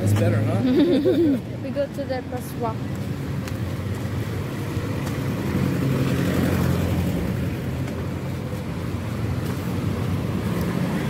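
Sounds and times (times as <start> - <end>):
car engines passing: 0.0 - 11.0.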